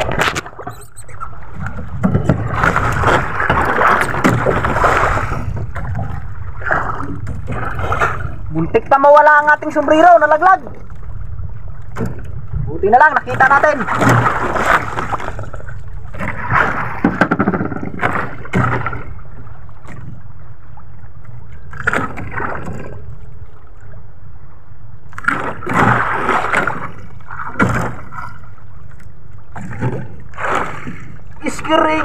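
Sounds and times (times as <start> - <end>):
water slapping against boat hull: 0.0 - 24.0, 25.1 - 32.0.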